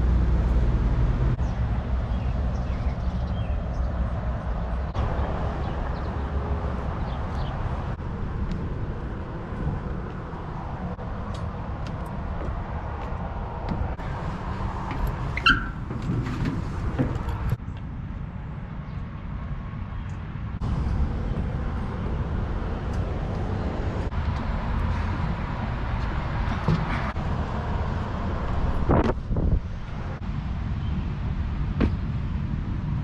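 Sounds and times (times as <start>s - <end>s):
vehicle road rumble: 0.0s - 33.0s.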